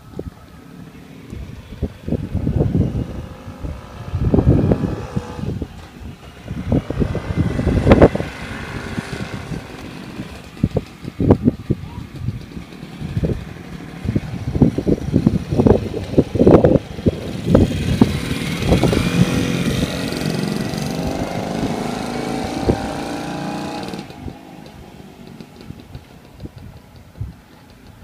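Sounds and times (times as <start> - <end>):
two-stroke motorcycle accelerating: 0.0 - 28.0.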